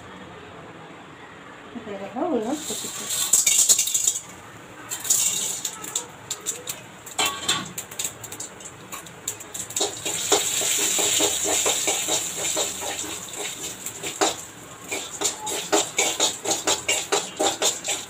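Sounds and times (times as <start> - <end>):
seeds sizzling and popping in oil: 2.6 - 18.0.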